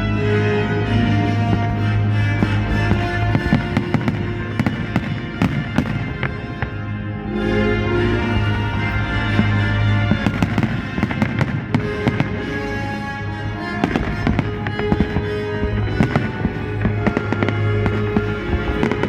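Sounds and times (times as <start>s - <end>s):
music with long held notes: 0.0s - 19.0s
fireworks bangs and crackles: 1.3s - 19.0s.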